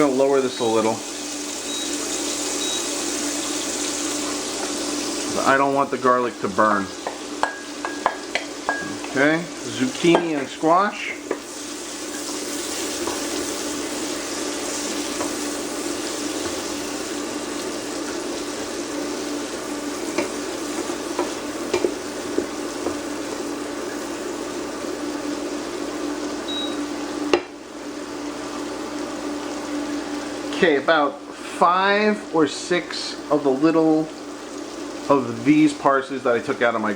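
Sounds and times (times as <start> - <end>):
vegetables sizzling in a pan: 0.0 - 36.9.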